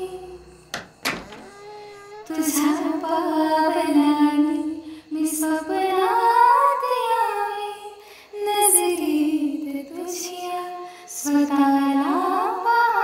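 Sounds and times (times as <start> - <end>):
woman singing slow melody: 0.0 - 0.6, 1.3 - 13.0.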